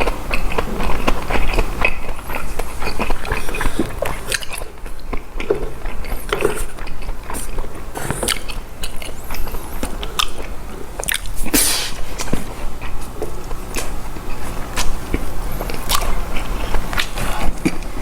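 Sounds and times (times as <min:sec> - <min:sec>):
wet chewing and lip-smacking: 0:00.0 - 0:18.0.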